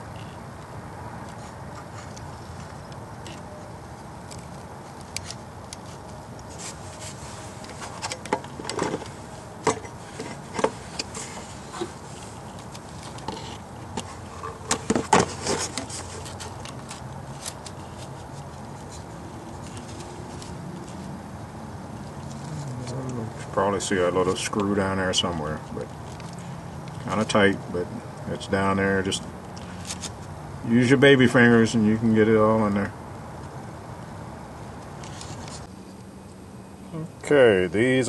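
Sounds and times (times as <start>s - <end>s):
faint background hum: 0.0s - 38.0s.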